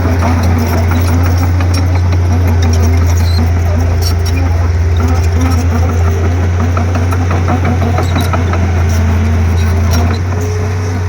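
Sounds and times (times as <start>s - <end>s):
bulldozer diesel engine running: 0.0s - 11.0s
metal clanking on metal: 0.0s - 11.0s.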